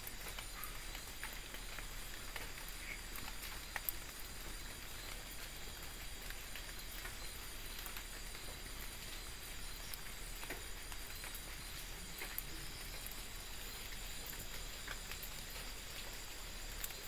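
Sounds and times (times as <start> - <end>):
night insects chorus: 0.0 - 17.0.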